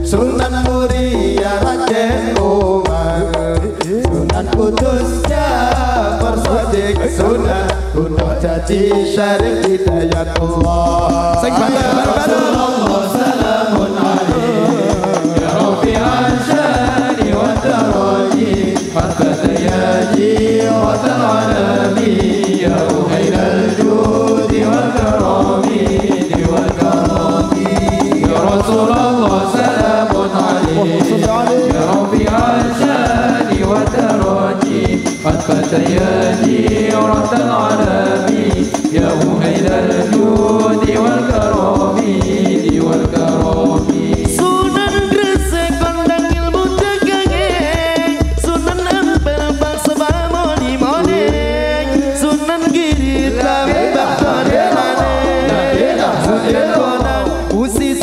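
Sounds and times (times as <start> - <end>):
men singing devotional song: 0.0 - 58.0
percussion rhythm: 0.0 - 58.0.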